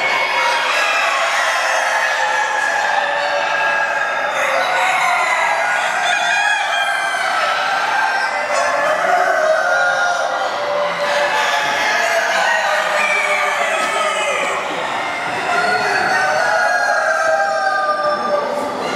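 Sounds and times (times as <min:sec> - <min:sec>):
hens clucking: 0:00.0 - 0:18.9
roosters crowing: 0:00.0 - 0:18.9.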